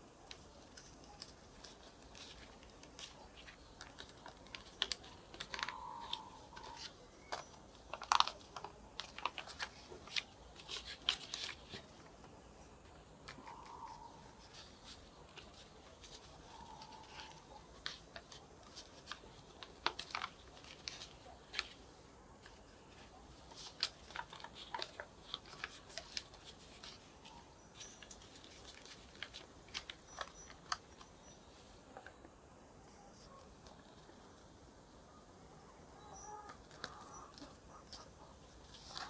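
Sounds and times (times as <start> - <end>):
paper crinkling and creasing: 0.0 - 32.3, 35.9 - 39.0.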